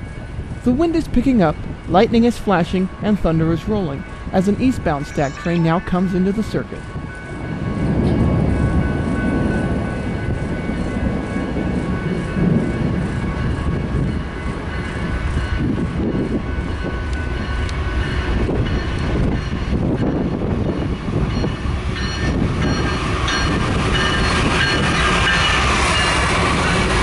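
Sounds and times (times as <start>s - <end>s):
diesel locomotives rumbling: 0.0s - 27.0s
train wheels on rails: 0.0s - 27.0s.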